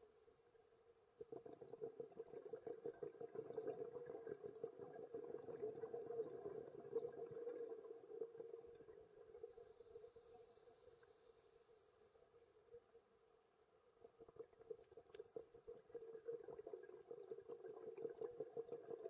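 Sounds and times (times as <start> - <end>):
underwater crackling and bubbling: 0.0 - 19.0.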